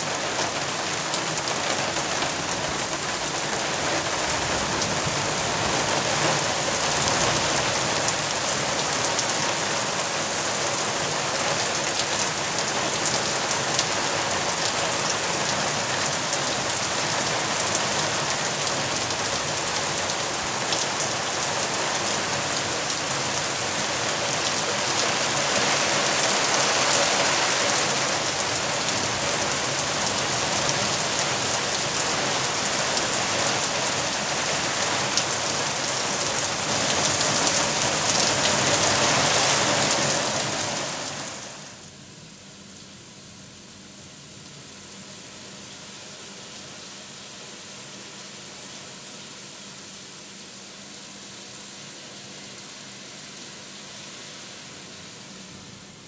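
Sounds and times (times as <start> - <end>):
heavy rain on corrugated roof: 0.0 - 56.0.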